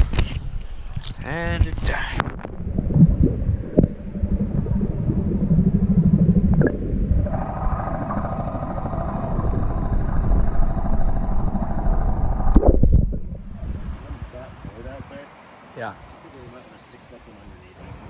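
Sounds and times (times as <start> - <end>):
muffled underwater rumble: 0.0 - 14.8.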